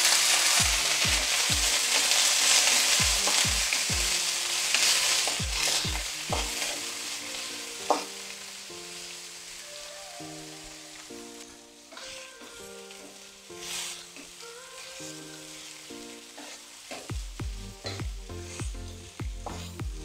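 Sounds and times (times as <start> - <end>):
spatula stirring in a wok: 0.0 - 10.1, 11.9 - 17.2, 17.8 - 19.8
fish sizzling in hot oil: 0.0 - 20.0.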